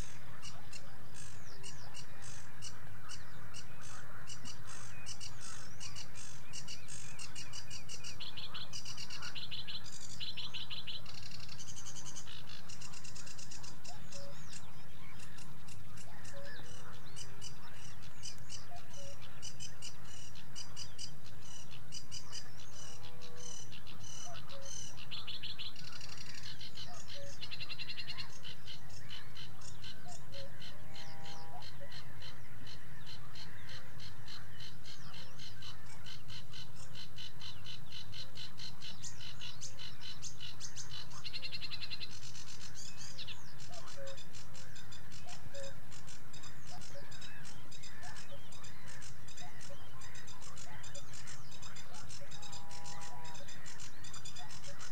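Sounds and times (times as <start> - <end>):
warbler singing chattering song: 0.0 - 54.9.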